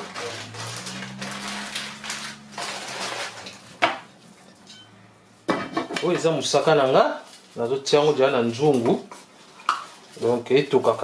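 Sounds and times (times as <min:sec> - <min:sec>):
plastic bag rustling: 0:00.0 - 0:04.7, 0:05.3 - 0:11.0.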